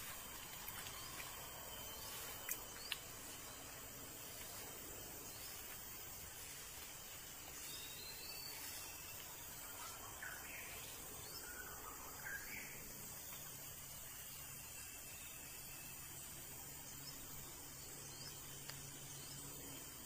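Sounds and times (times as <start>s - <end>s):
faint outdoor background hiss: 0.0s - 20.0s.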